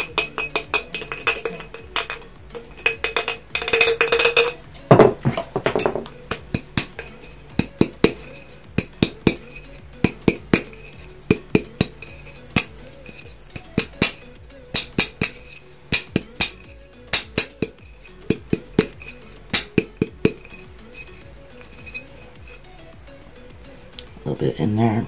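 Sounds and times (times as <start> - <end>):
hands tapping glass jar: 0.0 - 22.6.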